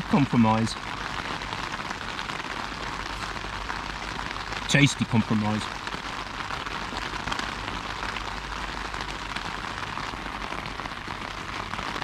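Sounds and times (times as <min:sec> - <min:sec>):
rain pattering on a tent: 0:00.0 - 0:12.0.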